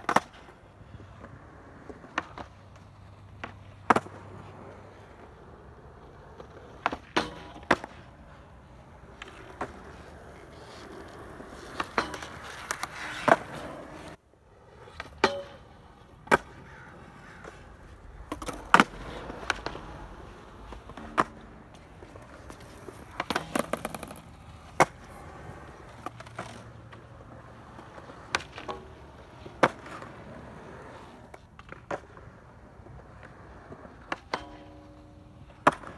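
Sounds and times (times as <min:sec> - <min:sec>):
skateboard clacks: 0:00.0 - 0:35.9
skateboard wheels rolling on concrete: 0:00.0 - 0:35.9.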